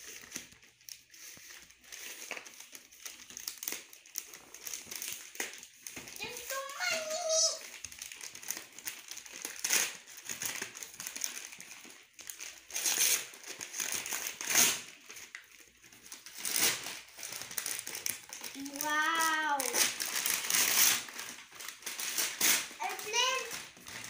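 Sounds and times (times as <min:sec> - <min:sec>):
wrapping paper tearing: 0:00.0 - 0:24.0.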